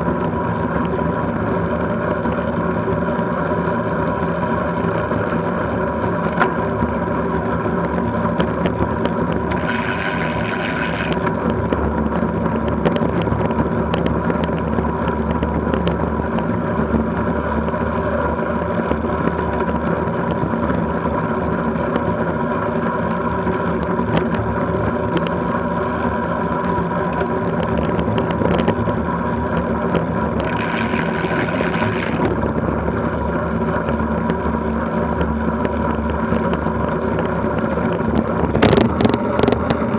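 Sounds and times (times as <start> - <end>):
bike rumble on rough road: 0.0 - 39.9
wind noise: 0.0 - 39.9.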